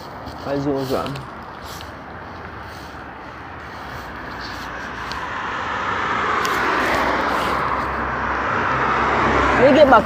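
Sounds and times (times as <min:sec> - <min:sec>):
vehicle approaching: 0:00.0 - 0:10.0.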